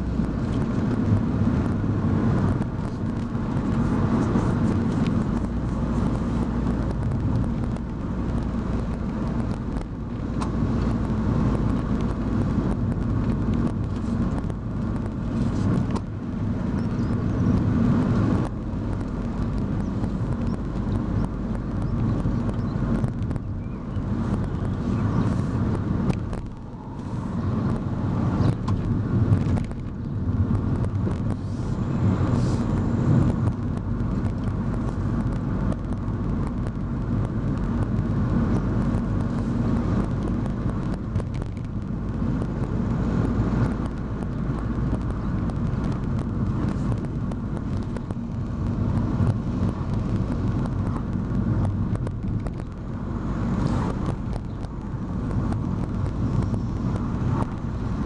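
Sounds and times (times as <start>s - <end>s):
car engine drone: 0.0s - 58.0s
tyre and road noise: 0.0s - 58.0s.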